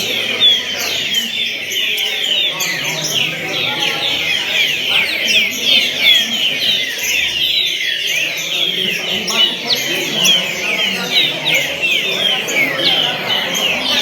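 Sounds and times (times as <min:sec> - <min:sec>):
many birds chirping: 0:00.0 - 0:14.0.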